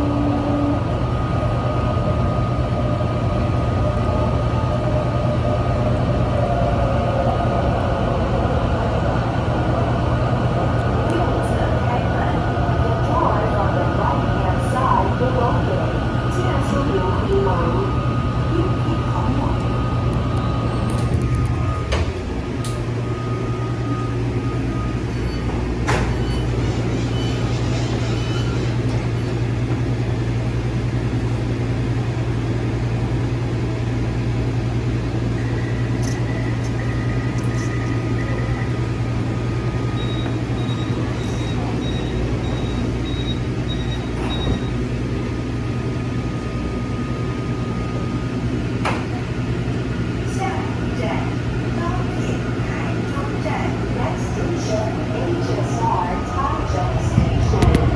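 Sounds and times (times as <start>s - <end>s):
metro train running hum: 0.0s - 57.9s.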